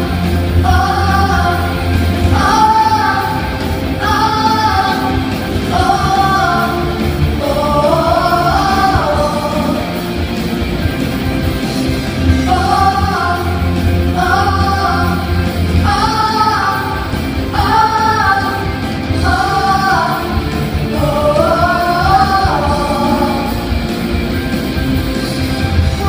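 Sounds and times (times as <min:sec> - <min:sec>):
person singing: 0:00.0 - 0:10.1, 0:12.4 - 0:23.9
bass-heavy instrumental backing: 0:00.0 - 0:26.0.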